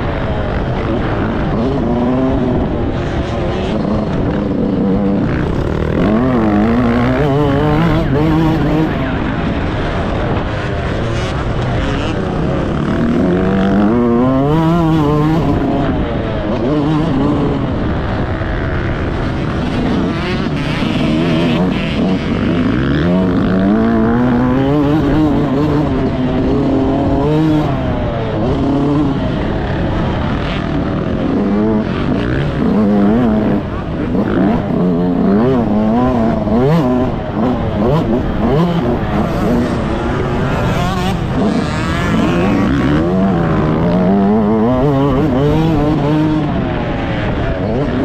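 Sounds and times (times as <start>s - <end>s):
two-stroke engine revving: 0.0s - 48.0s.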